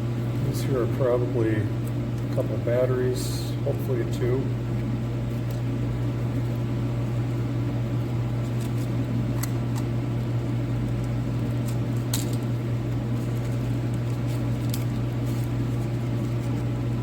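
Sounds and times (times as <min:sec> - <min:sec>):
heater fan humming: 0:00.0 - 0:17.0.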